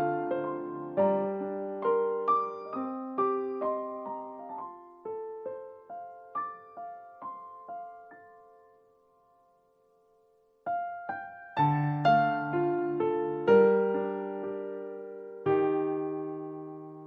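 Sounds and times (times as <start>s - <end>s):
slow solo piano melody: 0.0s - 17.0s.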